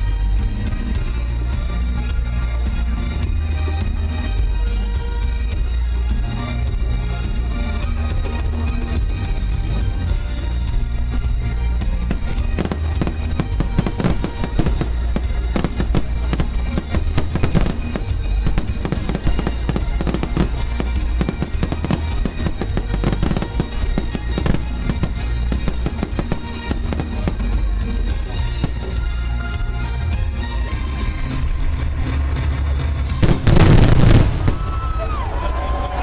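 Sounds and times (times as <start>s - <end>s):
music with steady beat: 0.0s - 34.9s
fireworks bangs and crackles: 0.0s - 36.0s.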